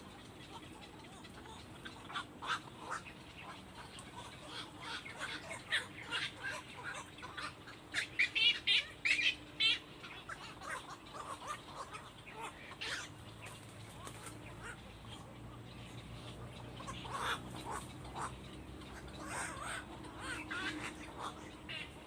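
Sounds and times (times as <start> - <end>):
birds chirping and squawking: 0.0 - 22.0
warbling bird calls: 0.0 - 22.0.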